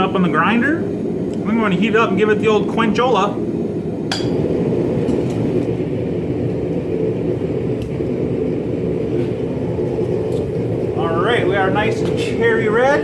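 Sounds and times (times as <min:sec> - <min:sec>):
forge rushing noise: 0:00.0 - 0:13.0.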